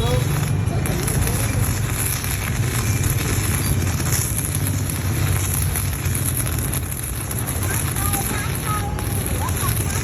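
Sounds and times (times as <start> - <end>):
crackling welding arc: 0.0 - 10.0.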